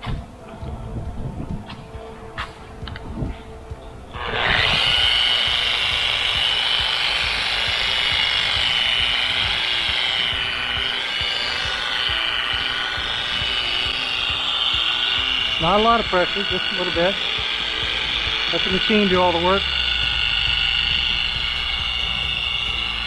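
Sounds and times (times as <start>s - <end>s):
electric polishing buffer whining: 2.2s - 23.0s.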